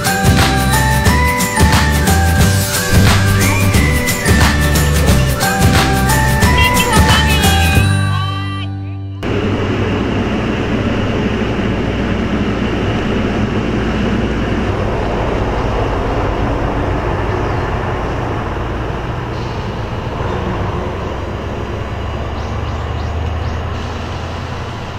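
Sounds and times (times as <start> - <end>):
road noise: 0.0 - 8.6, 9.2 - 24.9
bus engine running: 0.0 - 24.9.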